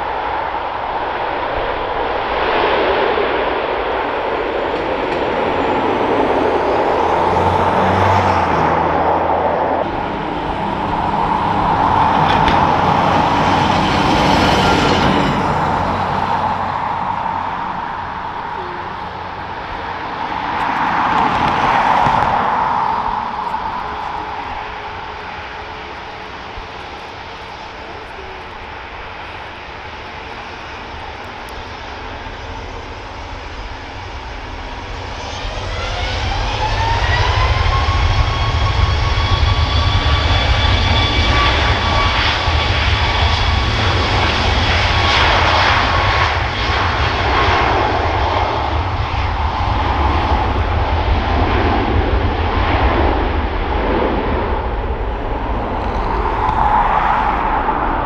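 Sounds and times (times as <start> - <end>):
jet engines whining and roaring: 0.0 - 58.0
wind rumbling on microphone: 0.0 - 58.0.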